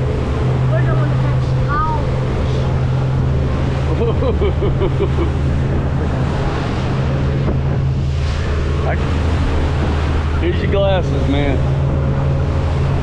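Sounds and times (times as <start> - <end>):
boat engine humming: 0.0 - 13.0
water around hull: 0.0 - 13.0
wind: 0.0 - 13.0.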